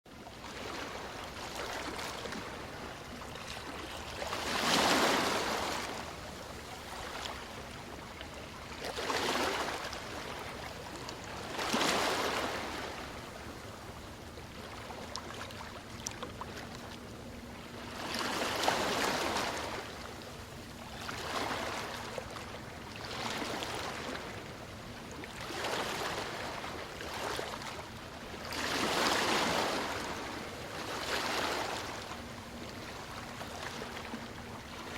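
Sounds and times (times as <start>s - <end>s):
ocean waves breaking on beach: 0.3s - 13.6s, 17.7s - 20.2s, 21.0s - 24.6s, 25.3s - 34.9s.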